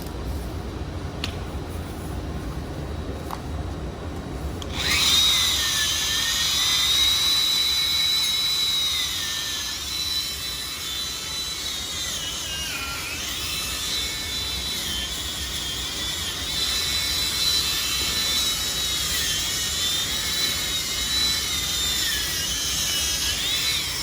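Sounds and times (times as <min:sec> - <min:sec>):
angle grinder whining on steel: 0:04.7 - 0:24.0.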